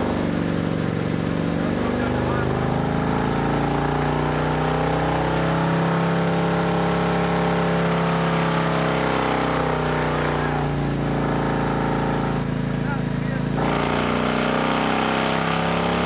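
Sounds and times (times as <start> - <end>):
motorcycle engine running under load: 0.0 - 16.0.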